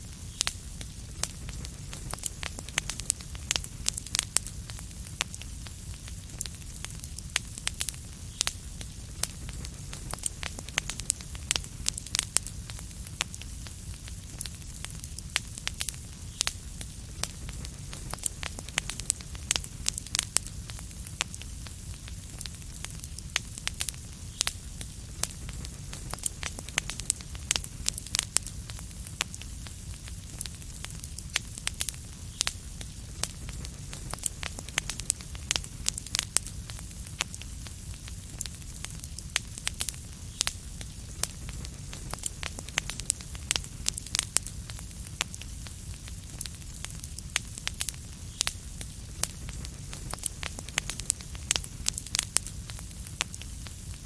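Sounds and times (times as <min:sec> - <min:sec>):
wood fire crackling: 0:00.0 - 0:54.0
low fire rumble: 0:00.1 - 0:54.0.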